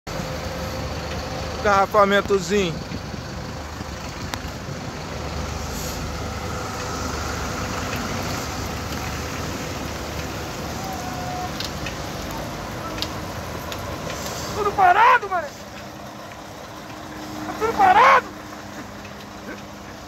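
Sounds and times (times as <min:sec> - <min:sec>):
idling traffic engines rumbling: 0:00.1 - 0:20.0
heavy rain hissing: 0:02.5 - 0:20.0.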